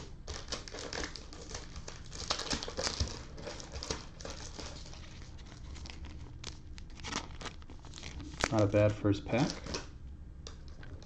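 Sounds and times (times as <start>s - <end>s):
plastic card sleeve crinkling: 0.0s - 11.0s.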